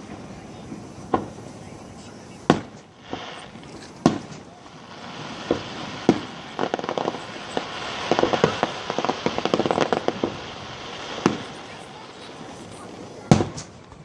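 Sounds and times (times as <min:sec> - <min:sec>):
rapid fireworks pops and crackle: 0:00.0 - 0:14.0.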